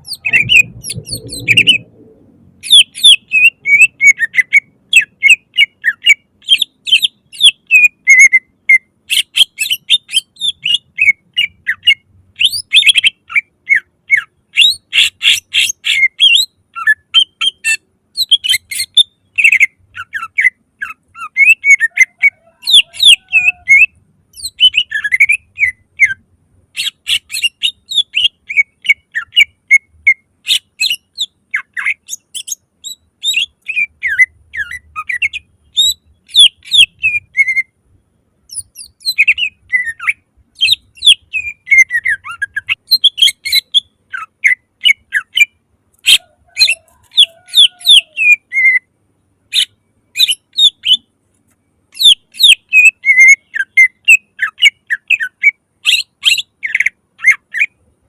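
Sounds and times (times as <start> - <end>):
bird singing: 0.0 - 51.1, 51.7 - 57.9.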